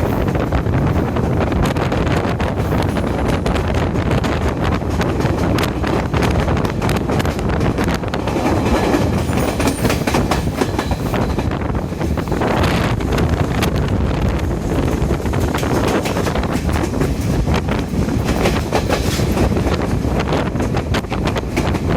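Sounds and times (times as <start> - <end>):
train rumbling: 0.0 - 21.9
wheels clattering on track: 0.0 - 21.9.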